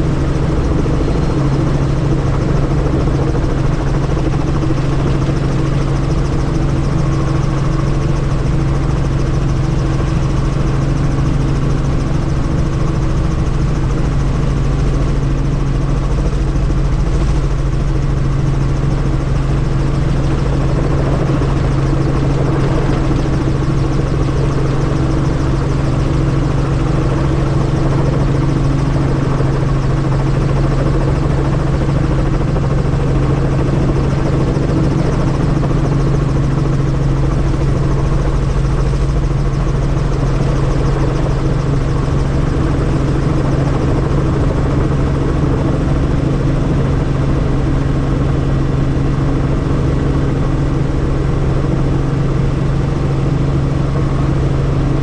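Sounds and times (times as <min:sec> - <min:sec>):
helicopter running: 0:00.0 - 0:55.0.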